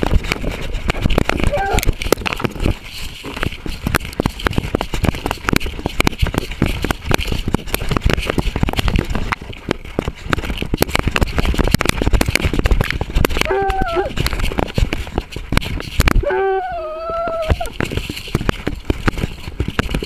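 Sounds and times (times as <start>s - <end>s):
camera knocking and scraping: 0.0s - 20.0s.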